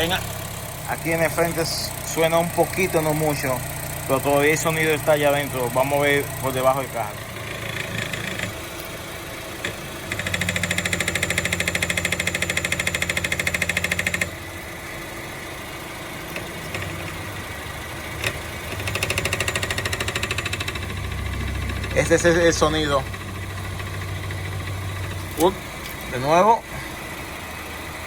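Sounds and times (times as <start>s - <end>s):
car engine idling: 0.0s - 28.0s
fast buzzing rattle under car: 0.0s - 28.0s.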